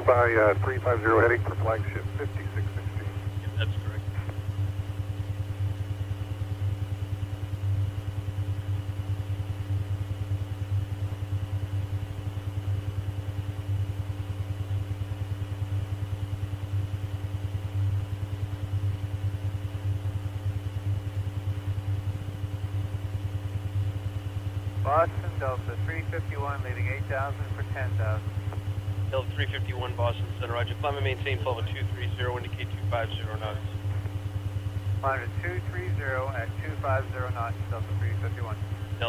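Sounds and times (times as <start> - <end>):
faint high whine: 0.0 - 39.0
low electrical buzz: 0.0 - 39.0.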